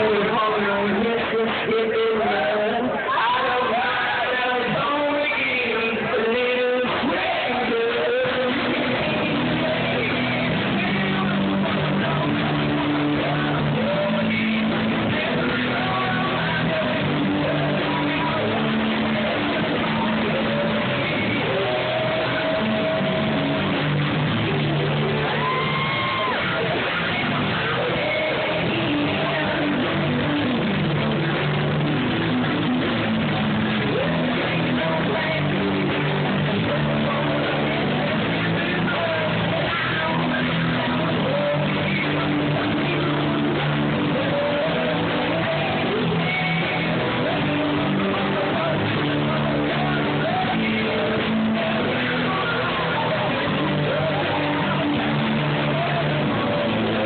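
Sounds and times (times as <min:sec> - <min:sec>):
bass guitar: 0:00.0 - 0:57.0
electric guitars: 0:00.0 - 0:57.0
person singing: 0:00.0 - 0:57.0.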